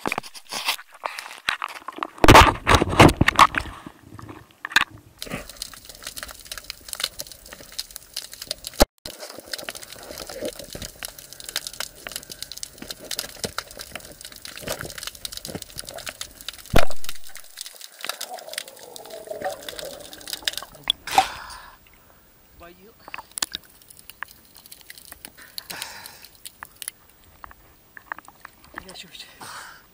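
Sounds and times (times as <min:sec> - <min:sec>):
underwater crackling and clicking: 0:01.6 - 0:21.2, 0:22.9 - 0:29.1.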